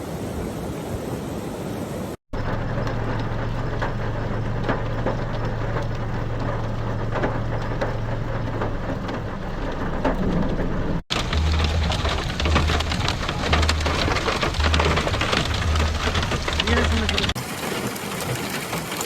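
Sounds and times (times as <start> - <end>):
heavy rain on hard surface: 1.9 - 19.0.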